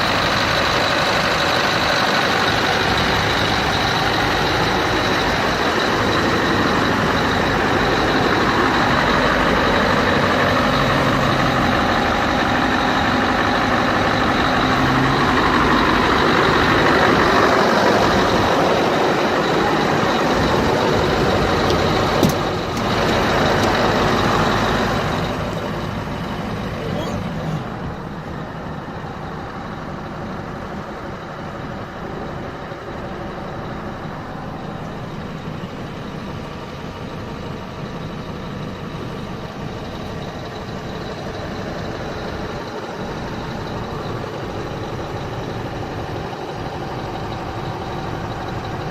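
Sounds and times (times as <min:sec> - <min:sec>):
truck engine idling: 0:00.0 - 0:48.9.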